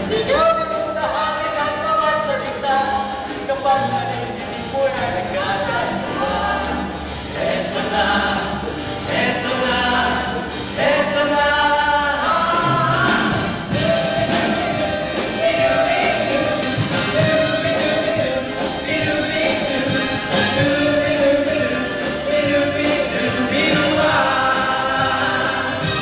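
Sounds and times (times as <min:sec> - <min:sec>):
accompaniment with steady beat: 0:00.0 - 0:26.0
voices singing along: 0:00.0 - 0:26.0.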